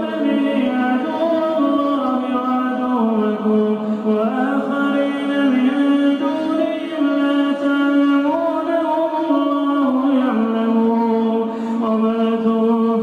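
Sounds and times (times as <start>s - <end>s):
man chanting recitation: 0.0s - 13.0s.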